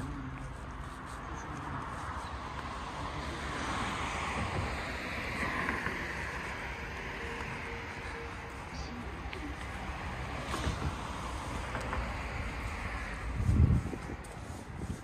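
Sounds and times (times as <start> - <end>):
steady street rushing noise: 0.0 - 15.0.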